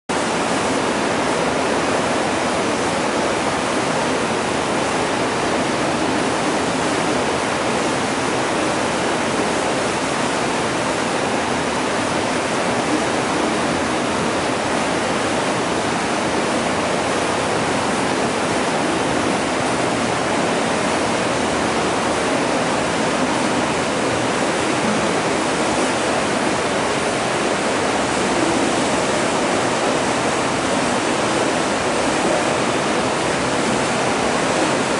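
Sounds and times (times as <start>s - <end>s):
turbulent water rushing: 0.1s - 34.9s.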